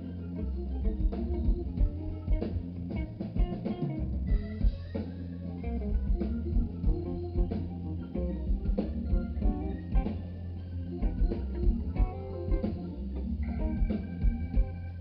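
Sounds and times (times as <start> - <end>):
bass guitar: 0.0 - 15.0
drum kit beat: 0.0 - 15.0
electric guitar lines: 0.0 - 15.0.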